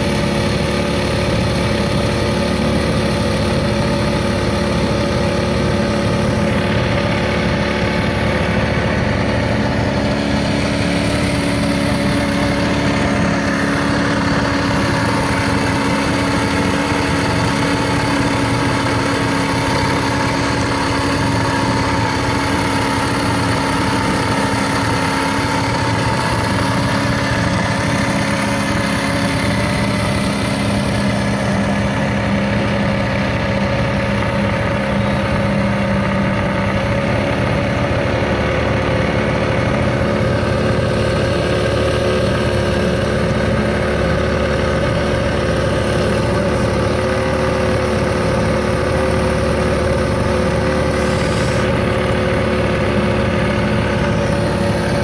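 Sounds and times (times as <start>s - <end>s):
boat motor droning: 0.0s - 55.0s.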